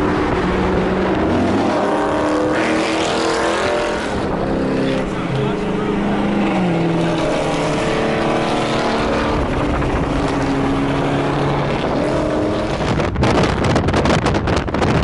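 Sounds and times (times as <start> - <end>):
car engine at highway speed: 0.0 - 15.0.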